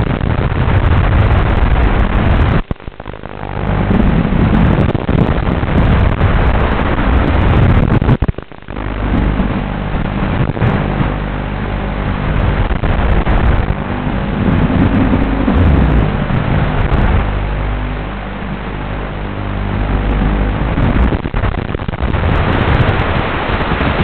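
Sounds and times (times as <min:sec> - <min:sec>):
wind rush: 0:00.0 - 0:24.0.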